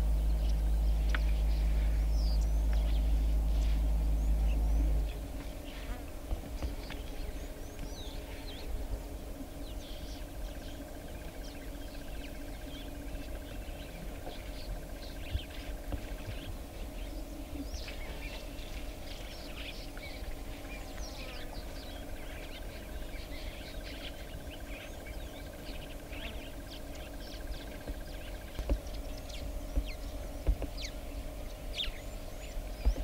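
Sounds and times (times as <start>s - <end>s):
birds chirping: 0.0s - 33.0s
low hum: 0.0s - 33.0s.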